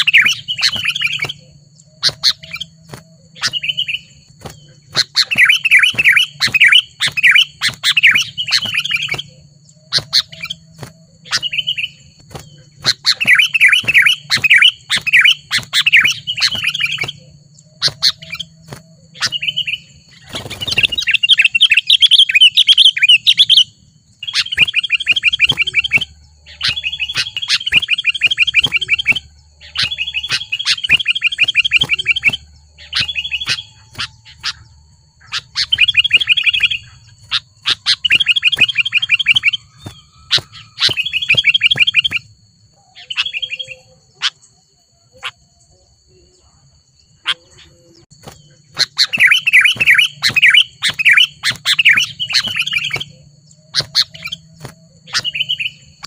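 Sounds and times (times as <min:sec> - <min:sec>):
bird chirping fast: 0:00.0 - 0:56.0.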